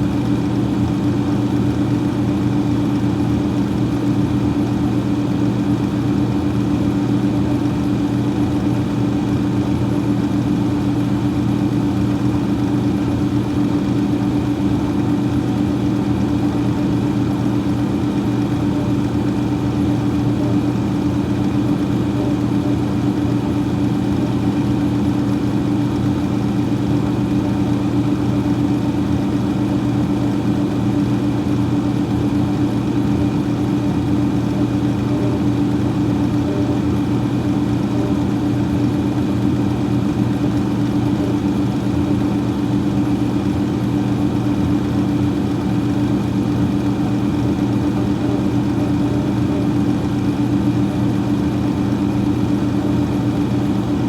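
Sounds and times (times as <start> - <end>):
freezer fan humming: 0.0 - 54.0.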